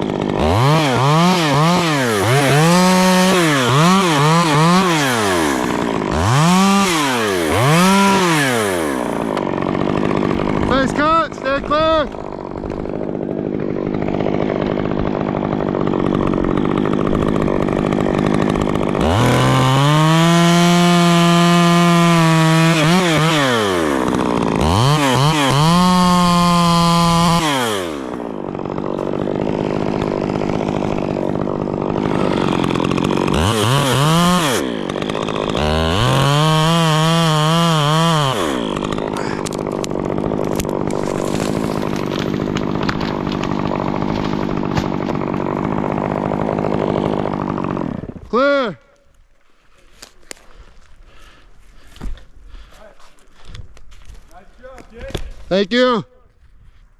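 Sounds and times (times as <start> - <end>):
chainsaw revving and cutting: 0.0 - 48.4.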